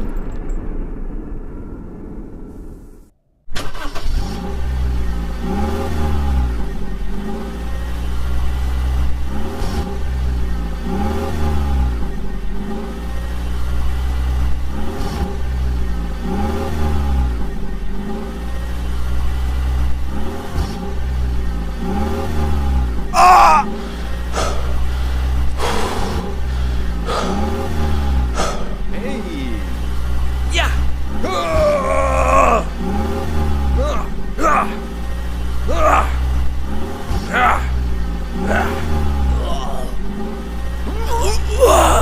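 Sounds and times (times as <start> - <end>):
vehicle engine running: 3.7 - 42.0.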